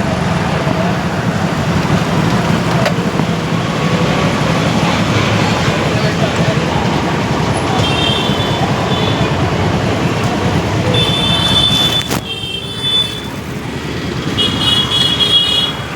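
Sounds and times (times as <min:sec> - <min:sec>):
motorcycle engine rumble: 0:00.0 - 0:15.9.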